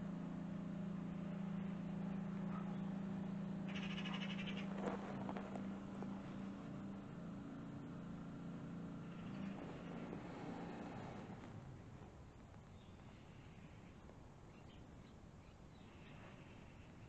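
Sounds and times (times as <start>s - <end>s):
low outdoor background hum: 0.0s - 17.0s.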